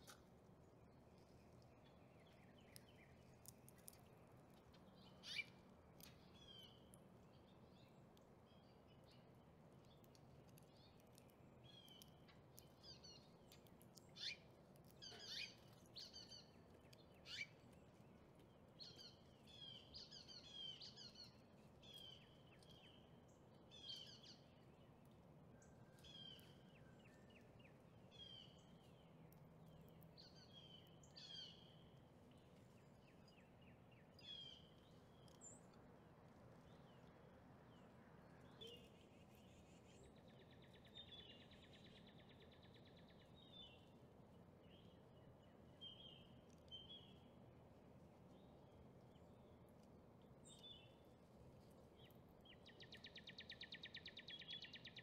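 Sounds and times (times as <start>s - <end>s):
low background hiss: 0.0s - 55.0s
songbird chirping: 0.0s - 55.0s.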